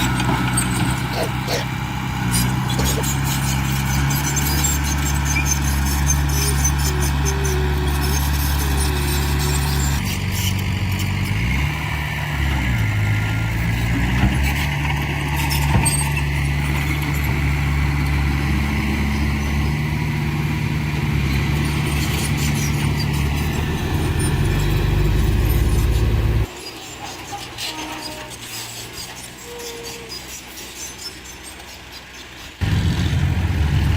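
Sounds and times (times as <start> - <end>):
heavy diesel engine under load: 0.0 - 33.9.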